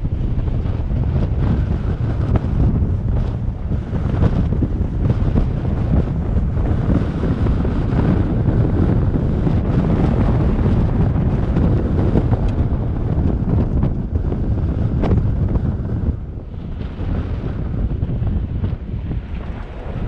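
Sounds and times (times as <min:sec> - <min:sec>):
vehicle tyres on gravel rumbling: 0:00.0 - 0:20.0
wind buffeting microphone: 0:00.0 - 0:20.0.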